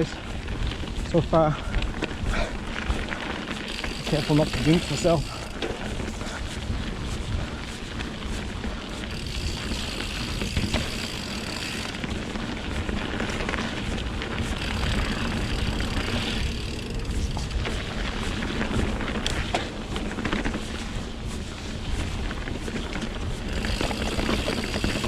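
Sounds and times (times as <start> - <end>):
bike rattles: 0.0 - 25.0
bike tyres rolling on dirt: 0.0 - 25.0
wind buffeting microphone: 0.0 - 25.0.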